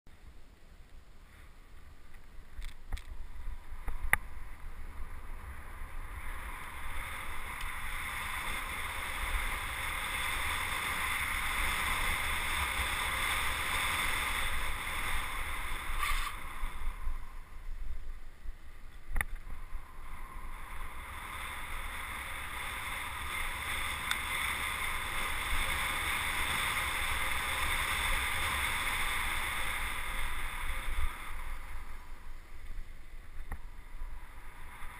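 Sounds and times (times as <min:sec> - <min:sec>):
wind rushing over microphone: 0:01.1 - 0:34.9.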